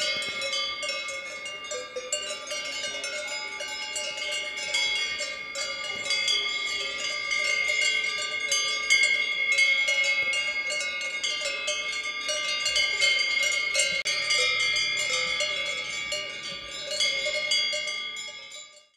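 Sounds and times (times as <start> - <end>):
cowbells ringing: 0.0 - 18.9.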